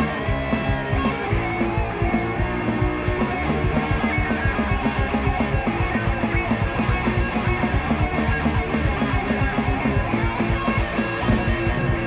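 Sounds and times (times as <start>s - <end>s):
steady cymbal beat: 0.0s - 11.6s
bass guitar: 0.0s - 12.0s
drum kit: 0.0s - 12.0s
guitars: 0.0s - 12.0s.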